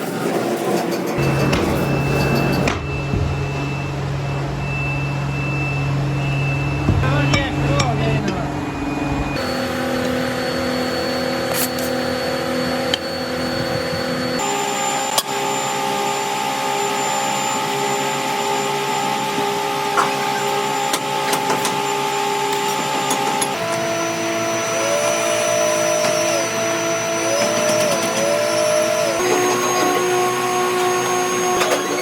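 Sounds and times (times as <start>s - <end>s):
factory machinery hum: 0.0s - 32.0s.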